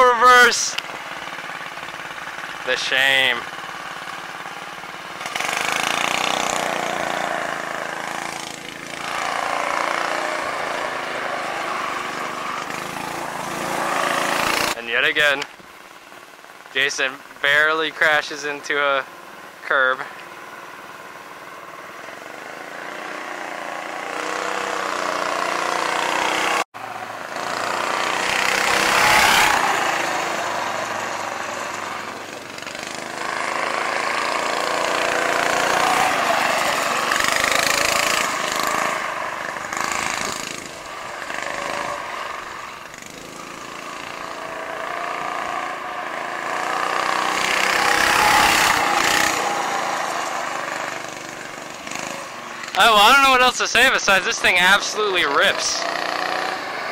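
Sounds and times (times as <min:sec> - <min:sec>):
go kart engine running: 0:00.0 - 0:56.9.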